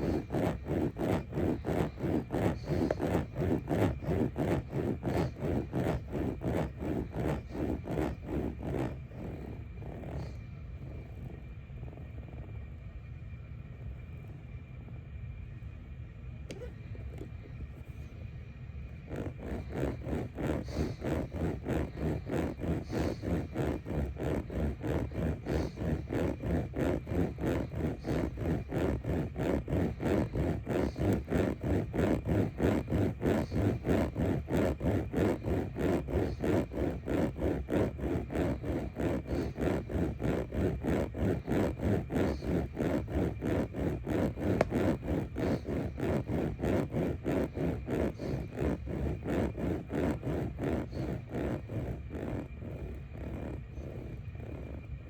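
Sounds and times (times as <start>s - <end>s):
rhythmic scraping: 0.0s - 11.5s, 18.9s - 55.0s.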